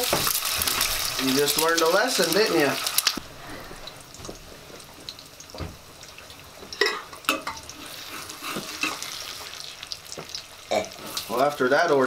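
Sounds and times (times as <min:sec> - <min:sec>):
eggs sizzling in a pan: 0:00.0 - 0:12.0.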